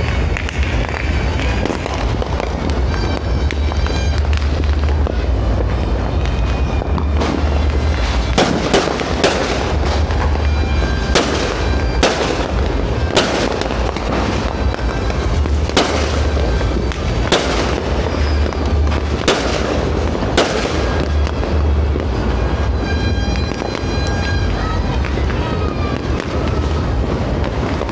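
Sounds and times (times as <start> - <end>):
fireworks bangs: 0.0 - 27.9
steady low rumble: 0.0 - 27.9.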